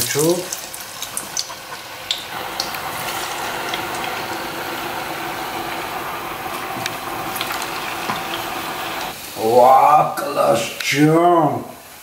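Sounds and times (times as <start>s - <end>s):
oil sizzling while deep-frying: 0.0s - 11.1s, 11.7s - 12.0s.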